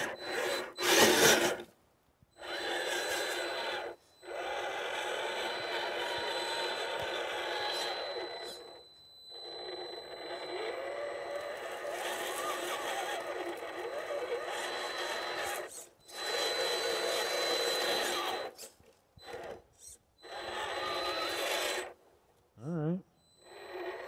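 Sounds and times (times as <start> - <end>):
electric motor whining: 0.0 - 1.7, 2.4 - 22.0, 23.2 - 24.0.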